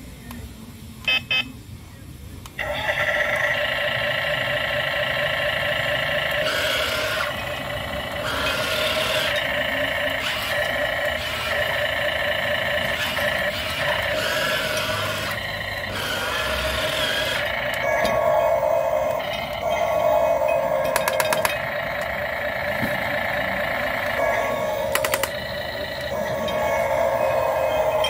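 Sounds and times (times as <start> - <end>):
toy electric motor whine: 2.6 - 28.0.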